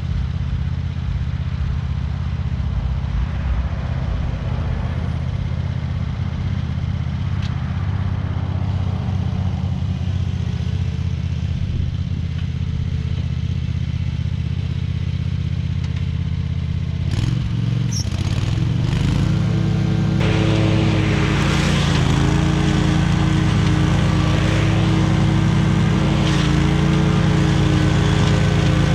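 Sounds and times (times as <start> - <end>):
mower engine running: 0.0 - 28.9.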